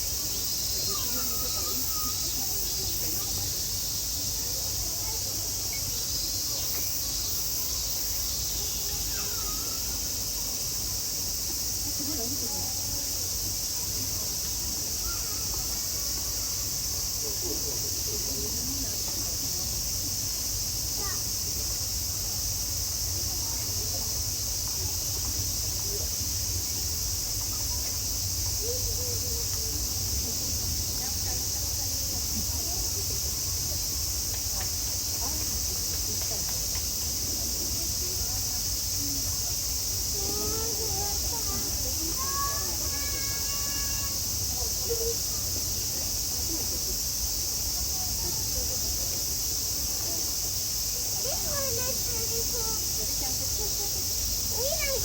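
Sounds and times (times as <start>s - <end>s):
cicadas droning: 0.0s - 55.0s
faint distant voices: 0.0s - 55.0s
insects buzzing: 0.0s - 55.0s.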